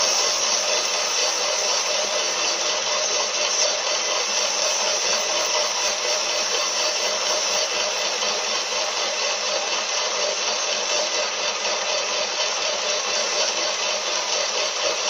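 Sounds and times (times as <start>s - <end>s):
abrasive strip polishing metal: 0.0s - 15.0s
metal lathe running: 0.0s - 15.0s.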